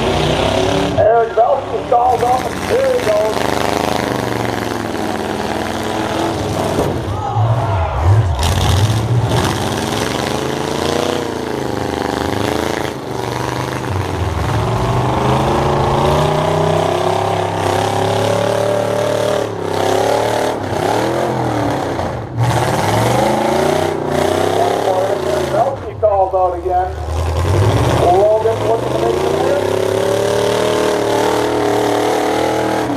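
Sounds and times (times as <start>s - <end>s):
truck engines revving hard: 0.0s - 32.9s.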